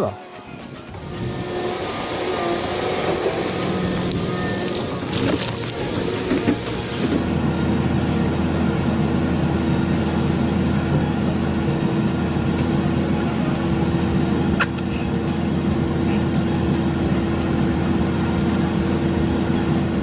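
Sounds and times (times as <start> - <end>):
heavy machine engine humming: 0.0 - 20.0.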